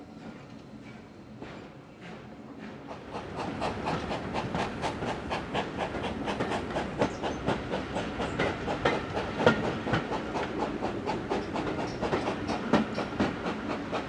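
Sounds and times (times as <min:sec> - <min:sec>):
steam locomotive chuffing: 0:00.0 - 0:14.0.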